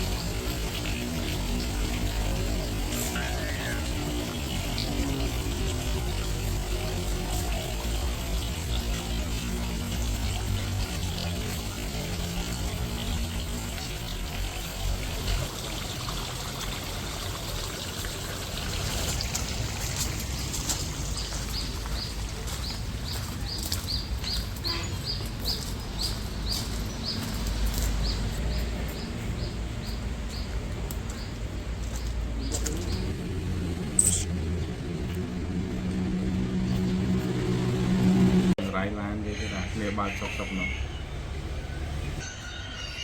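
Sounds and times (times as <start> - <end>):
running water rushing: 0.0 - 38.6.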